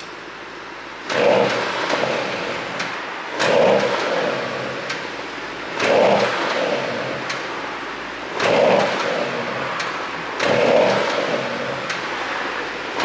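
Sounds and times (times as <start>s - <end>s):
car engine revving: 1.1s - 7.3s, 8.2s - 13.0s.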